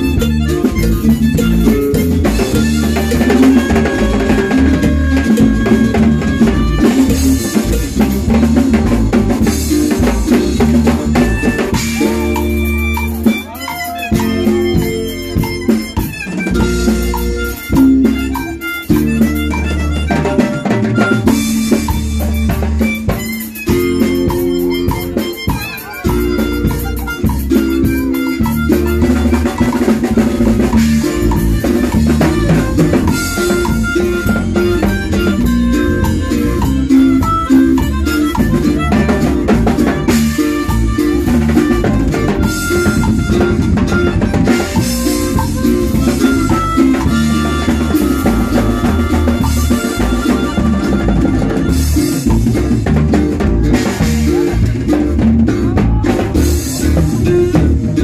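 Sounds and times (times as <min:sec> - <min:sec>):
drum kit beat: 0:00.0 - 0:58.0
live band playing: 0:00.0 - 0:58.0.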